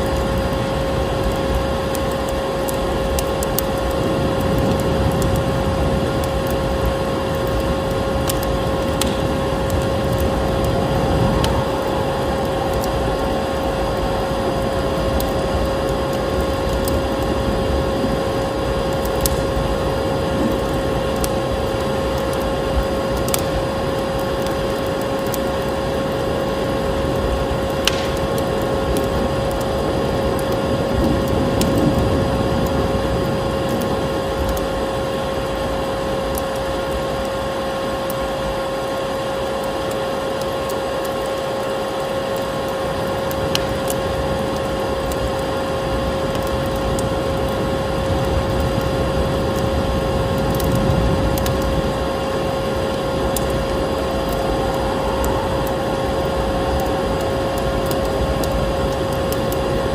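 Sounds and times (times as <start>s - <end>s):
fire popping: 0.0s - 59.9s
vacuum cleaner motor whine: 0.0s - 59.9s
wood fire crackling: 0.0s - 59.9s.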